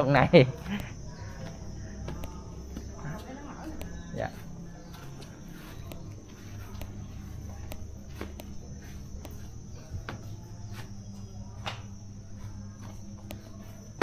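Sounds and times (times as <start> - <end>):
high-pitched insect drone: 0.0 - 14.0
low hum: 0.2 - 14.0
footsteps on tiles: 0.5 - 14.0.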